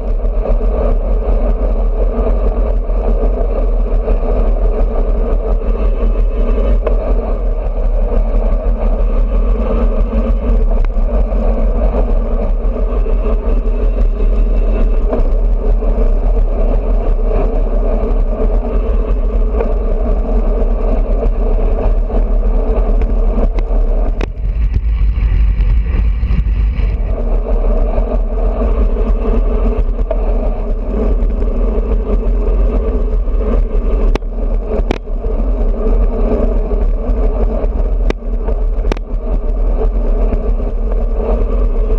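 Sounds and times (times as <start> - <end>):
bicycle road noise: 0.0 - 41.9
wind buffeting on microphone: 0.0 - 41.9
wind rush: 0.0 - 41.9.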